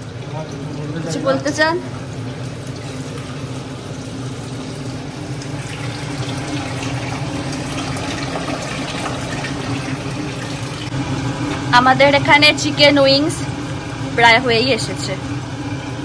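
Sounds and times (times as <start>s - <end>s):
steady low hum: 0.0s - 16.0s
water running into metal pot: 0.0s - 16.0s.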